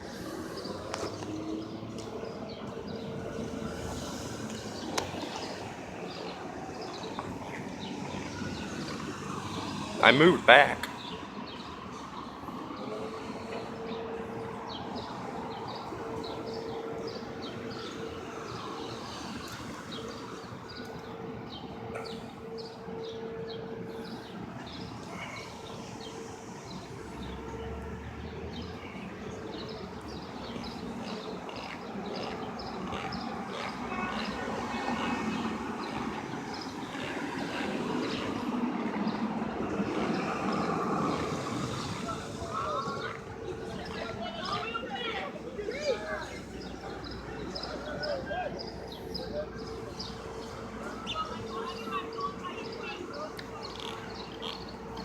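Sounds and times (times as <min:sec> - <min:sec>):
passing vehicles rumbling: 0:00.0 - 0:55.0.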